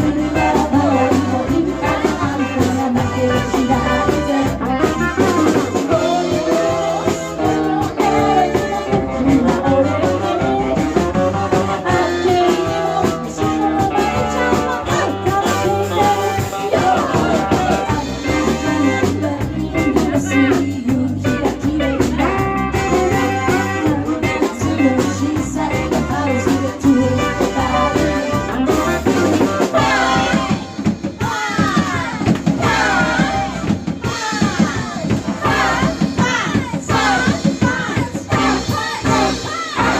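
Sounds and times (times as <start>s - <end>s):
band playing upbeat music: 0.0s - 39.9s
person singing: 0.0s - 39.9s.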